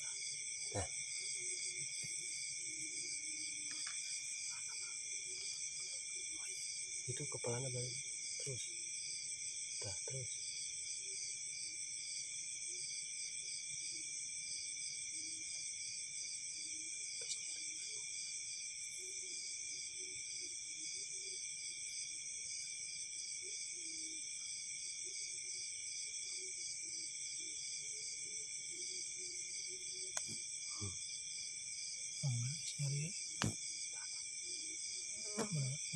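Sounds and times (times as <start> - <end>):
crickets and insects trilling: 0.0 - 35.9
pulsing insect trill: 0.0 - 35.9.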